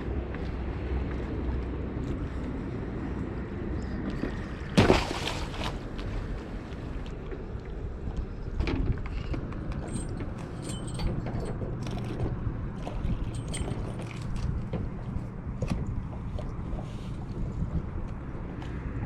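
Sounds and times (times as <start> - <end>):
wind and sea rumble: 0.0 - 19.0.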